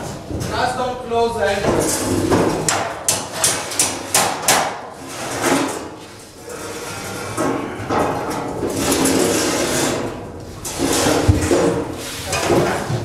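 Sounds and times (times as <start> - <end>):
panels scraping and rubbing: 1.5 - 13.0.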